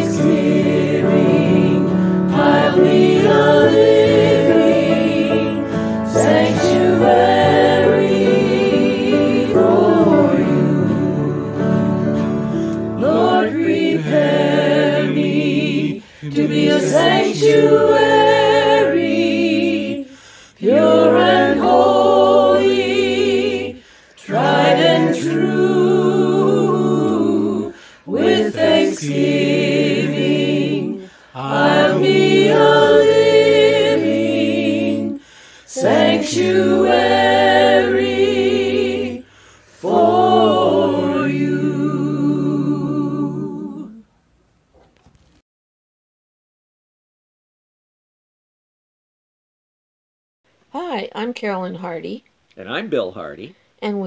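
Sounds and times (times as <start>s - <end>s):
mixed choir singing: 0.0s - 44.1s.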